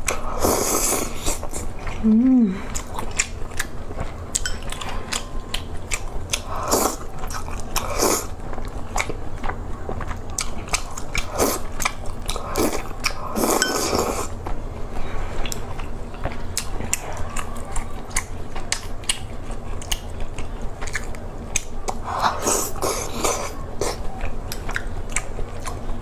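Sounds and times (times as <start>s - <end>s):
biting and chewing: 2.6s - 26.0s.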